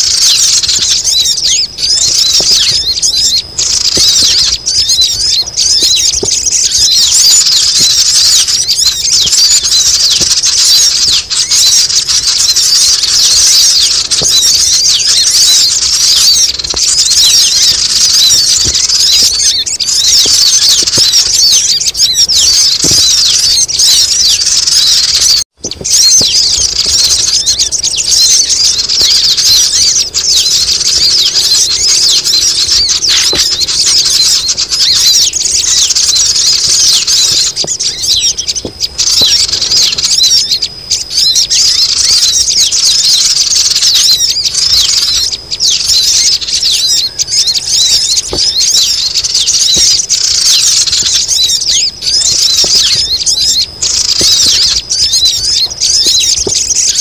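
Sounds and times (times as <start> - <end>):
chorus of chattering bird calls: 0.0 - 57.0.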